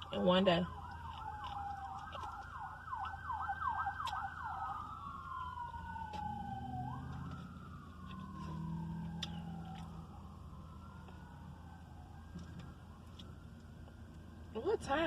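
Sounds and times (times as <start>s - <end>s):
emergency vehicle siren: 0.0s - 15.0s.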